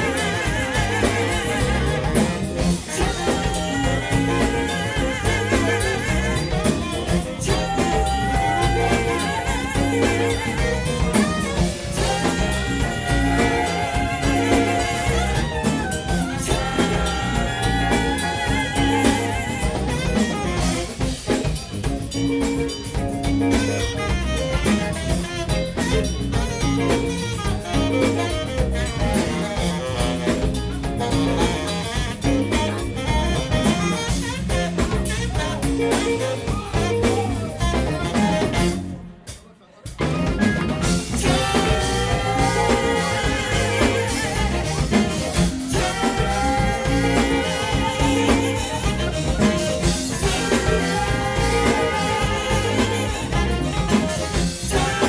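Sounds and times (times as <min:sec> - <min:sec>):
drums keeping steady beat: 0:00.0 - 0:55.0
soul band playing: 0:00.0 - 0:55.0.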